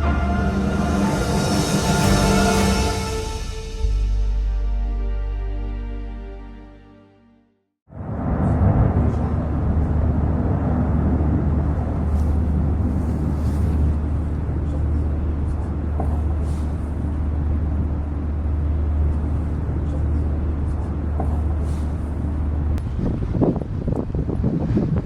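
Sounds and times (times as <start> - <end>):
steady low rumble: 0.0 - 6.7, 7.9 - 25.0.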